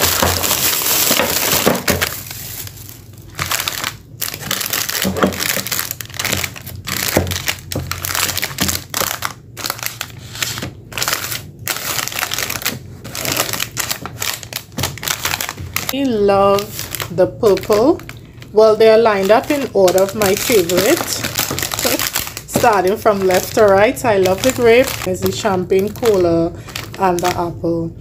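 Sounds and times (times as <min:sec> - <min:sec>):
plastic wrappers crinkling: 0:00.0 - 0:27.7.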